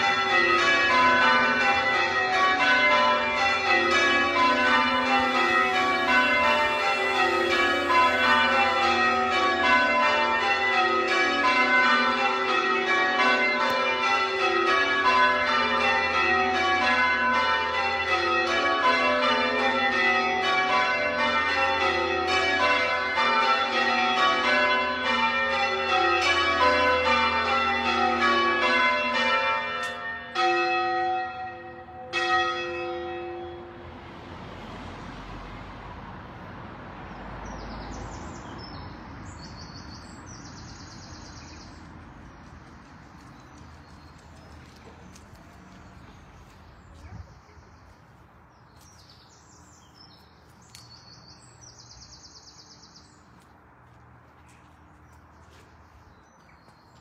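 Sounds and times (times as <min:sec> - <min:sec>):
church bells change ringing: 0:00.0 - 0:34.3, 0:37.1 - 0:53.5.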